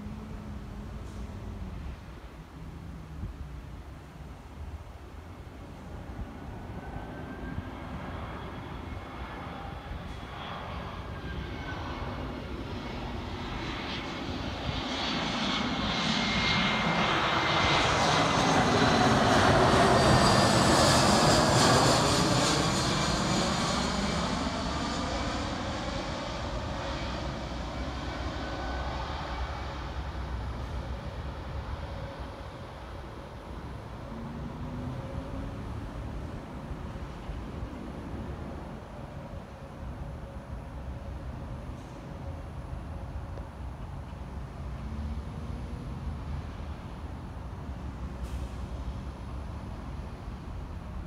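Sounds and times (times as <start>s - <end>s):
jet airliner passing overhead: 4.4s - 51.0s.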